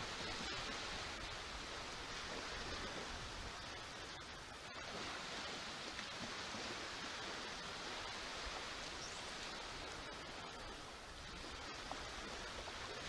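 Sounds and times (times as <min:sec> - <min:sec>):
small waves breaking on shore: 0:00.0 - 0:13.0
wind rumble on microphone: 0:00.0 - 0:13.0.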